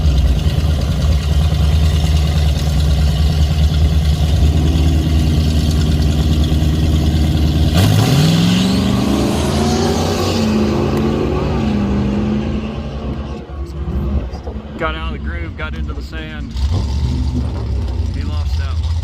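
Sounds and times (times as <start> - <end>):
drag car engine idling and revving: 0.0 - 19.0.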